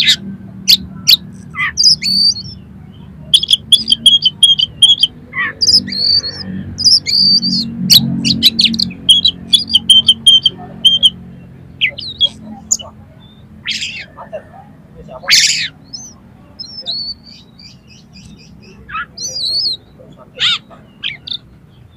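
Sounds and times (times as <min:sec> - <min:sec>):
bird singing: 0:00.0 - 0:21.9.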